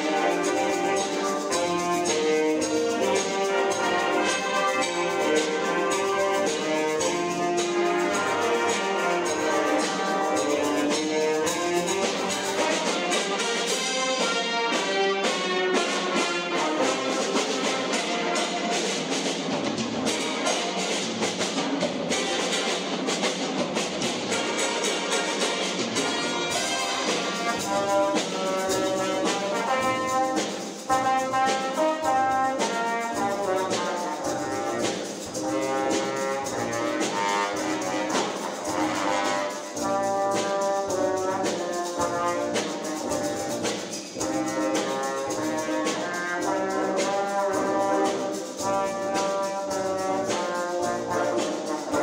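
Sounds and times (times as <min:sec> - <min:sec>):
drum kit: 0:00.0 - 0:52.0
jazz big band playing: 0:00.0 - 0:52.0
trumpets and trombones: 0:00.0 - 0:52.0.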